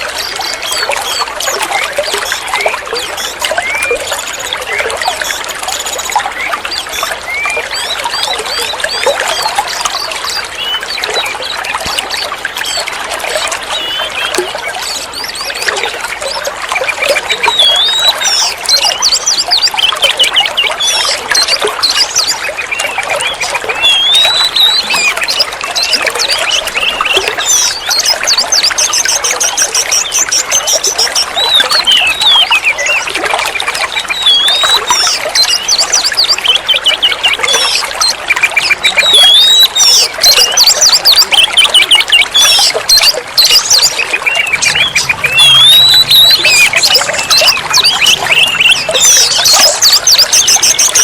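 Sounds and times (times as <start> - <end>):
bird singing whistles and trills: 0.0 - 51.0
trickling running water: 0.0 - 51.0.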